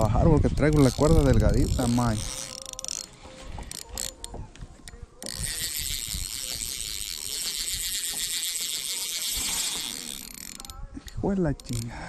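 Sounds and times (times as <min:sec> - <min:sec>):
fishing reel ratcheting whir: 0:00.1 - 0:04.4, 0:05.2 - 0:12.0
fishing reel clicks: 0:00.6 - 0:12.0.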